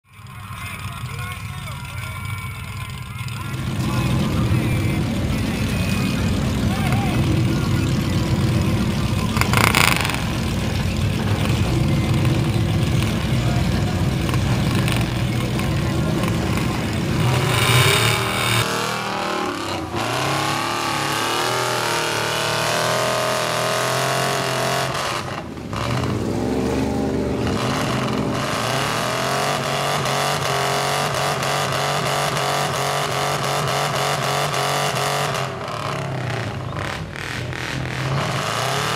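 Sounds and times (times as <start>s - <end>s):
truck engine revving: 0.2s - 38.9s.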